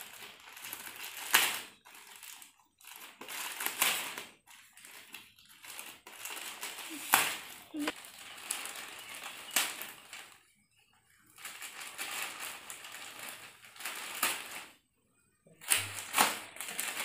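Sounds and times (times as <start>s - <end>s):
plastic bag crinkling and tearing: 0.0s - 10.5s, 11.3s - 14.8s, 15.6s - 17.0s.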